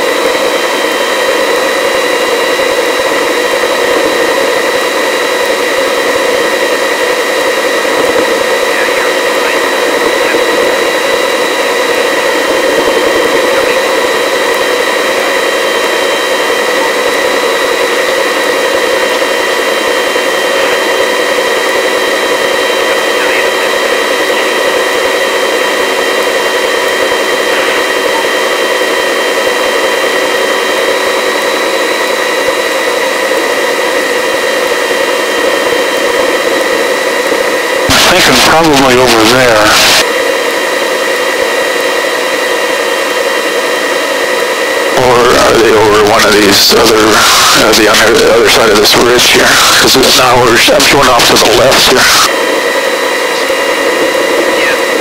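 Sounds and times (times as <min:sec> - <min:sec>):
helicopter engine and rotor in flight: 0:00.0 - 0:55.0.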